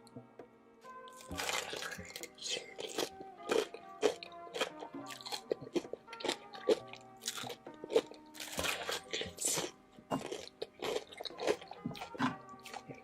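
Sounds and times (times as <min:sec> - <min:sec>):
background music: 0:00.0 - 0:13.0
chewing crunchy fried chicken: 0:01.1 - 0:13.0.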